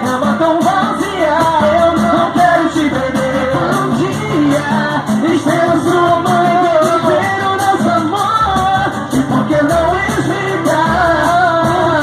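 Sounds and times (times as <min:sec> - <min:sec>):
live band music: 0:00.0 - 0:12.0
percussion beat: 0:00.0 - 0:12.0
person singing: 0:00.0 - 0:12.0.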